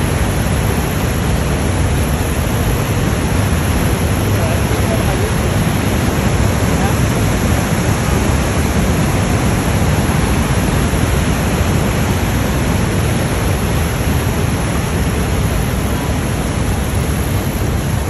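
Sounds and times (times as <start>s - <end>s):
waterfall and rapids rushing: 0.0s - 18.0s.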